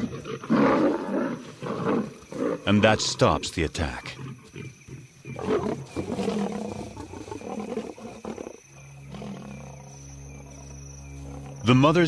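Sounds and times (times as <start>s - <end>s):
lions growling and roaring: 0.0s - 11.8s.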